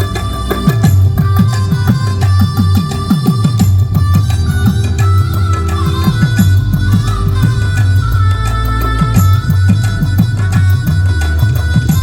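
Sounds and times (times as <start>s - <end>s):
steady sustained tones: 0.0s - 12.0s.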